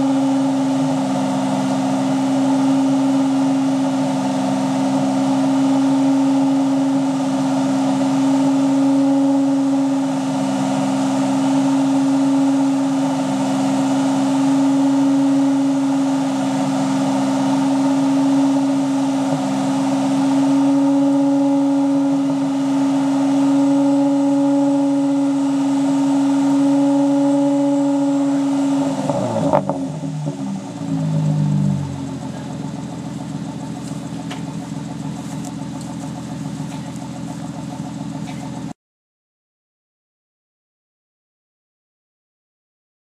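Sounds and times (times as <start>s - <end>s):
car engine revving then idling: 0.0s - 38.8s.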